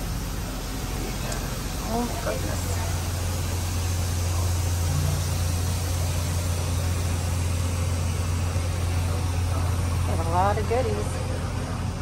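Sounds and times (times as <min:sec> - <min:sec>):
air hissing: 0:00.0 - 0:12.0
low machine hum: 0:00.0 - 0:12.0.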